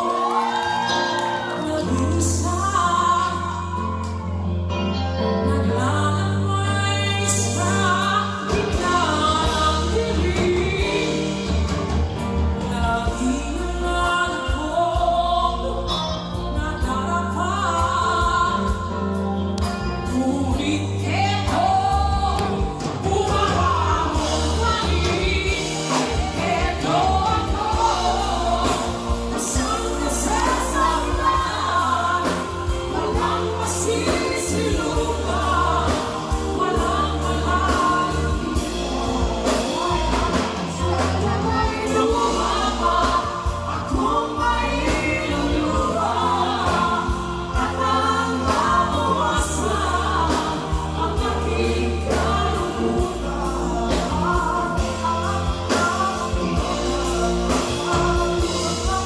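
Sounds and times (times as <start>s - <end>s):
person singing: 0.0s - 59.0s
bass and drum beat: 6.4s - 59.0s.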